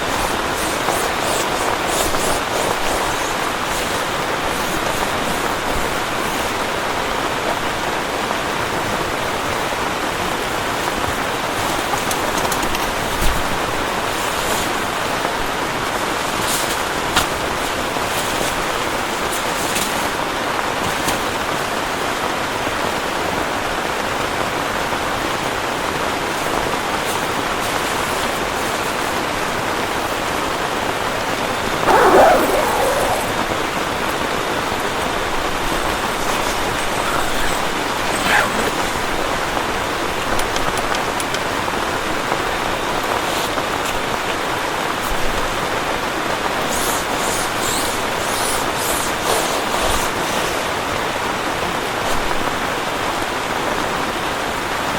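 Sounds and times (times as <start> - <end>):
heavy rain: 0.0 - 46.7.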